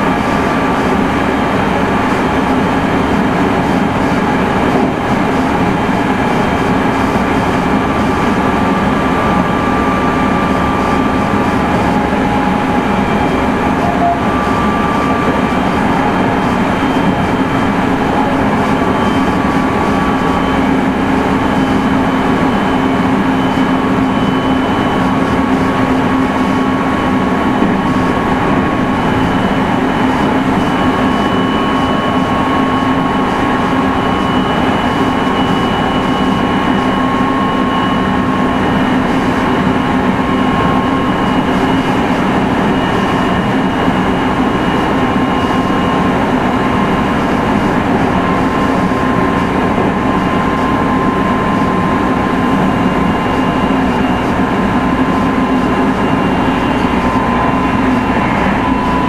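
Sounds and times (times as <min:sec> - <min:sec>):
electric drive whine: 0:00.0 - 0:59.0
train wheels rumbling on rail: 0:00.0 - 0:59.0.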